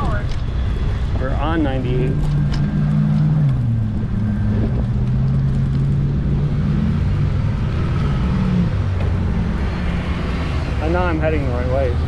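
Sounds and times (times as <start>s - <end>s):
steady engine hum: 0.0s - 12.0s
wind rumble on microphone: 0.0s - 12.0s
vehicle passing by: 0.9s - 12.0s.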